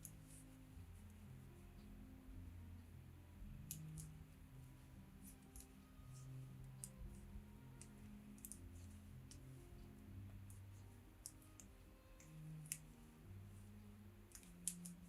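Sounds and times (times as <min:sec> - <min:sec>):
soft background music: 0:00.0 - 0:15.0
knitting needles clicking: 0:02.8 - 0:15.0.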